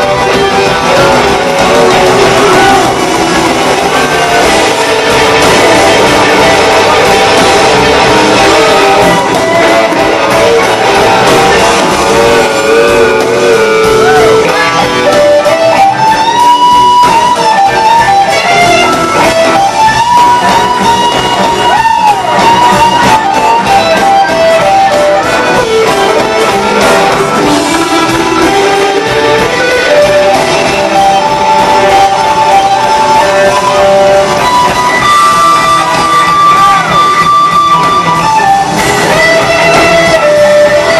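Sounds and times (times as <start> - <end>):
blues-rock band playing: 0.0 - 40.9
electric guitar lead: 0.0 - 40.9.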